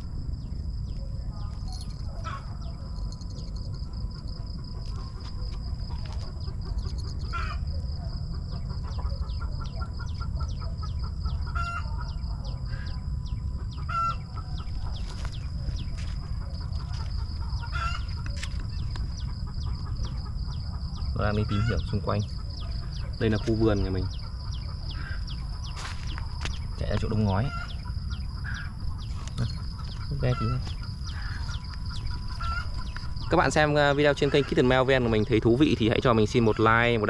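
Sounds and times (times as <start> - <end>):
small birds chirping: 0.0 - 37.0
chickens clucking: 1.4 - 37.0.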